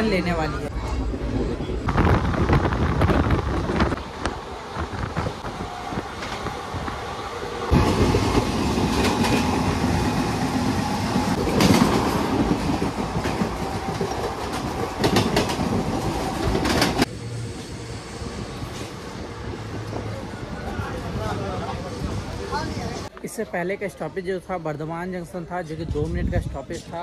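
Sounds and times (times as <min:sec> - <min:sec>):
train rumbling: 0:00.0 - 0:23.1
passing train alongside: 0:00.0 - 0:27.0.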